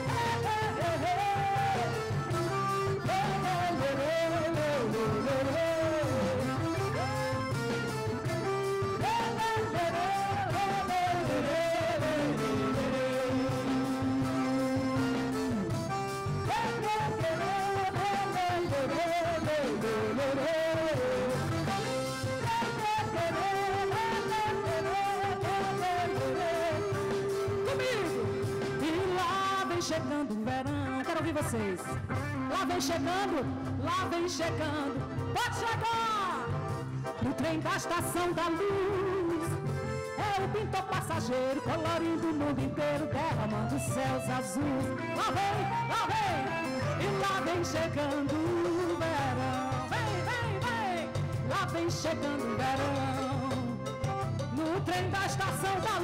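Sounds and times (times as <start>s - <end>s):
woman singing lead vocal: 0.0s - 7.4s, 9.0s - 15.7s, 16.4s - 56.0s
band playing upbeat pop: 0.0s - 56.0s
bass: 0.0s - 56.0s
drum kit beat: 0.0s - 56.0s
electric guitar melody: 0.0s - 56.0s.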